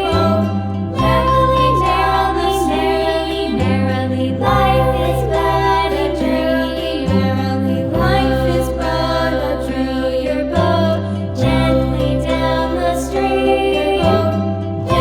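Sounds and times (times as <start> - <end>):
background music with singing: 0.0 - 15.0.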